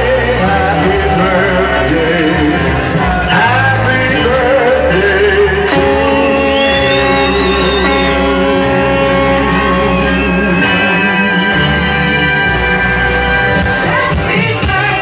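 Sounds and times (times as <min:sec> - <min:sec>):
loud music with singing: 0:00.0 - 0:15.0
steady bass line: 0:00.0 - 0:15.0.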